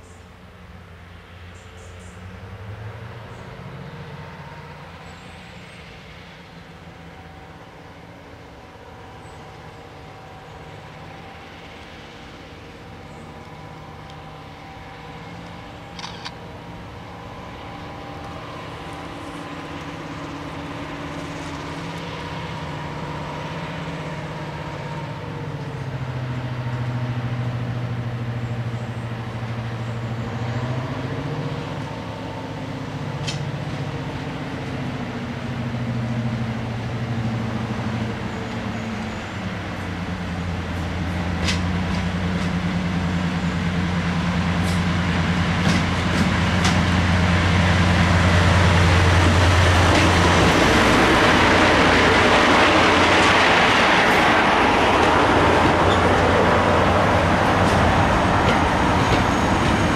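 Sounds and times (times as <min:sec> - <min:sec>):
diesel locomotive engine: 0:00.0 - 0:59.9.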